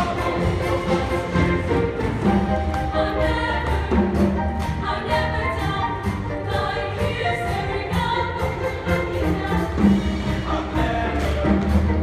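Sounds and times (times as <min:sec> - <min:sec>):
choir singing in parts: 0:00.0 - 0:12.0.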